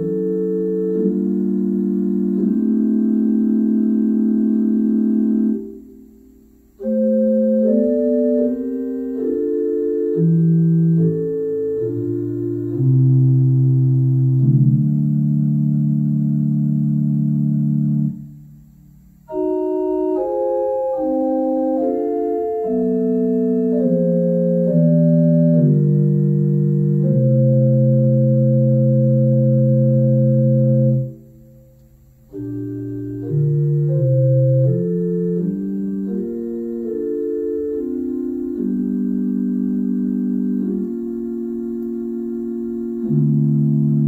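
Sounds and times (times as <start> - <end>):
organ playing a slow hymn: 0.0 - 44.0.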